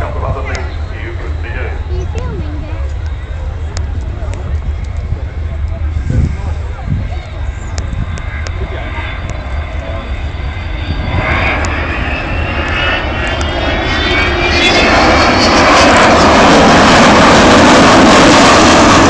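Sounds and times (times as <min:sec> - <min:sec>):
jet aircraft roar with whine: 0:00.0 - 0:19.0.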